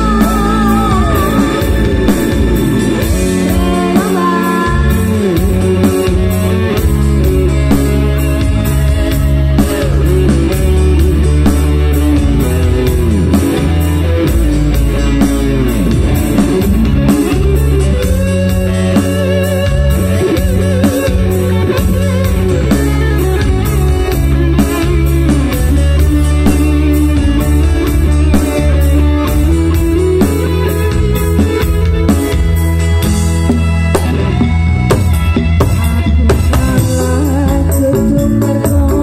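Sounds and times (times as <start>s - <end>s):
electric guitar lead: 0.0s - 39.0s
live instrumental music: 0.0s - 39.0s.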